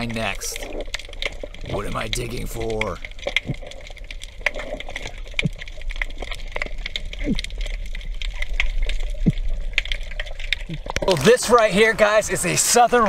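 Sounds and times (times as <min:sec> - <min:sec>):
low underwater rumble: 0:00.0 - 0:12.4
underwater crackling clicks: 0:00.0 - 0:13.0.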